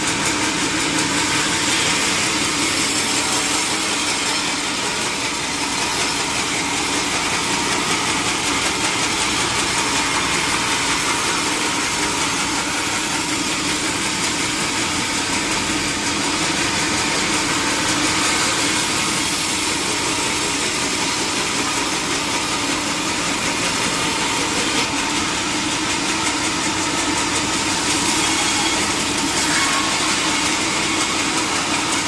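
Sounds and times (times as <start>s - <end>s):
sawmill machinery droning: 0.0s - 32.0s.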